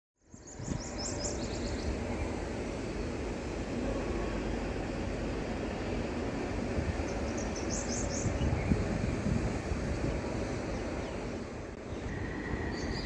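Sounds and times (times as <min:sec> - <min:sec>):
train rumbling: 0:00.2 - 0:13.0.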